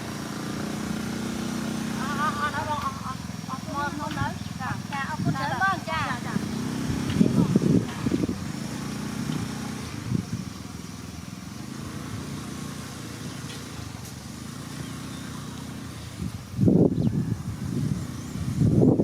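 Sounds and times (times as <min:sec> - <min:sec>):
heavy diesel engine running: 0:00.0 - 0:18.7.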